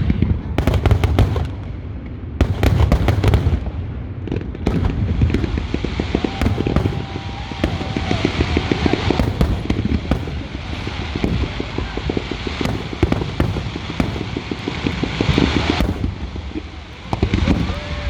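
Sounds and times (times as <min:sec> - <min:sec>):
fireworks booms and bangs: 0:00.0 - 0:18.0
fireworks crackling: 0:00.0 - 0:18.0.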